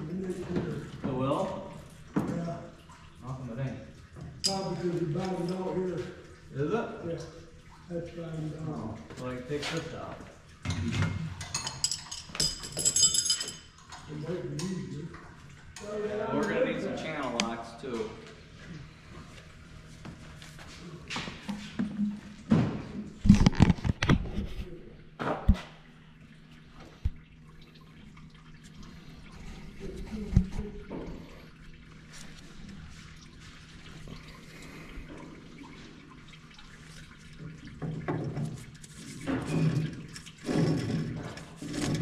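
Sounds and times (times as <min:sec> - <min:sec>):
coolant trickling and dripping: 0:00.0 - 0:42.0.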